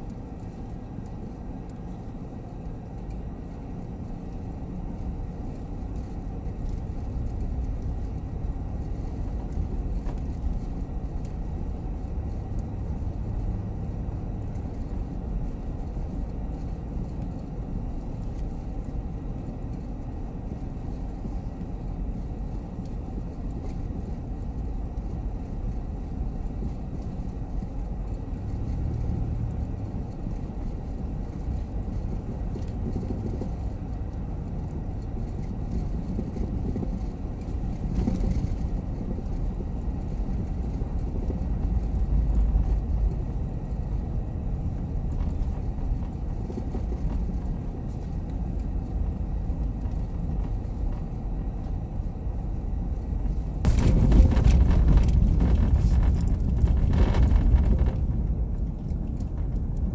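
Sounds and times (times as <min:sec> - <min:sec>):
road noise inside van: 0:00.0 - 0:59.9.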